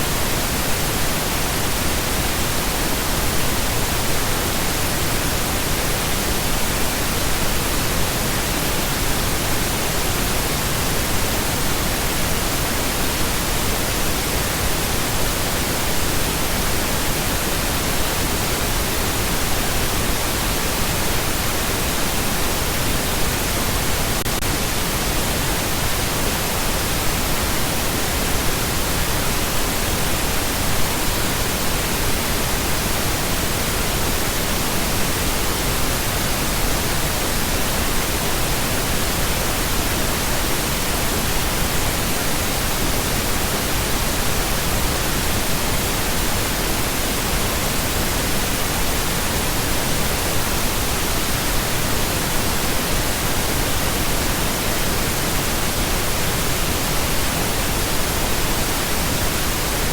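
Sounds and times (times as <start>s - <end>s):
steady pink noise hiss: 0.0s - 59.9s.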